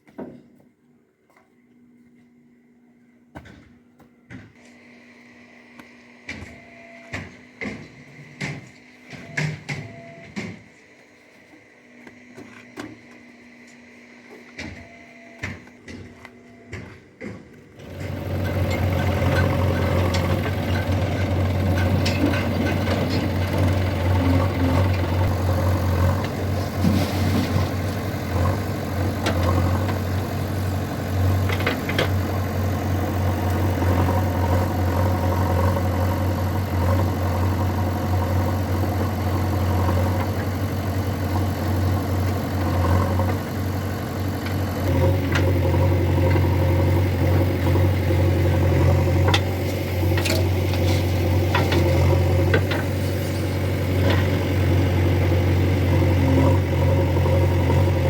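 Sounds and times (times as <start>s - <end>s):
diesel engines running: 4.0s - 58.0s.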